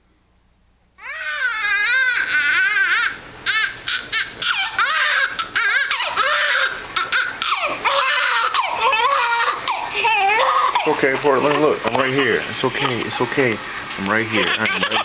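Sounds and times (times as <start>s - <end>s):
newborn baby crying: 1.0s - 13.3s, 14.2s - 15.0s.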